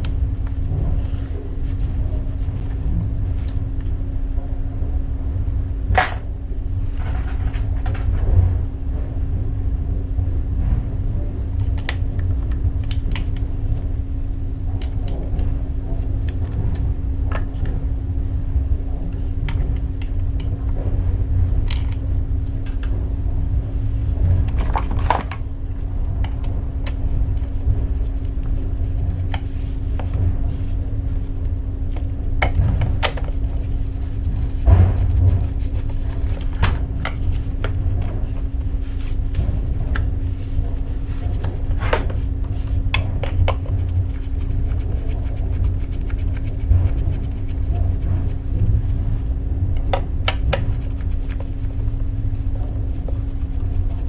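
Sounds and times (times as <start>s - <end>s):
low rumble with hum: 0.0s - 54.0s.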